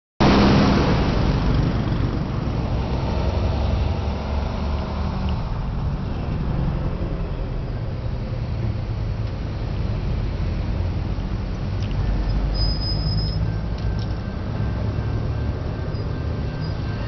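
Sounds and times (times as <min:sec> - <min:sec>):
diesel locomotives rumbling: 0:00.2 - 0:17.0
road traffic passing: 0:00.2 - 0:17.0.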